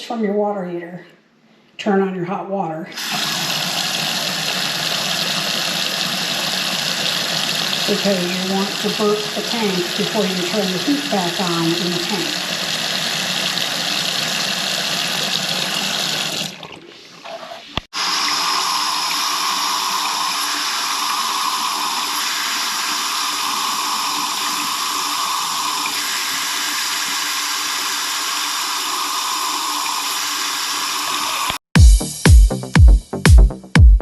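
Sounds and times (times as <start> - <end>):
water pouring into sink: 3.0 - 31.6.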